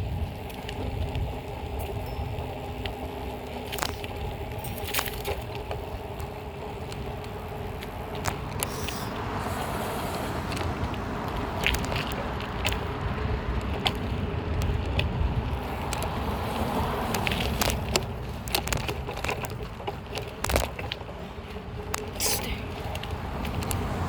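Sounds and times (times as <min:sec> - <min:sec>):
bike clicks and rattles: 0:00.0 - 0:24.0
bike tyre rumble on pavement: 0:00.0 - 0:24.0
wind: 0:00.0 - 0:24.0.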